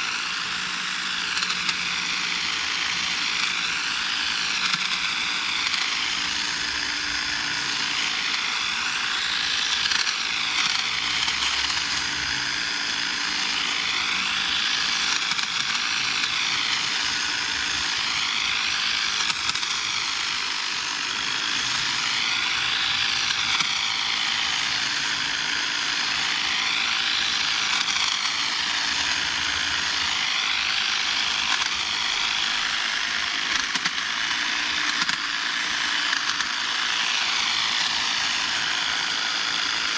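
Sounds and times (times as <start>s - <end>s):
hedge trimmer cutting bushes: 0.0s - 39.9s.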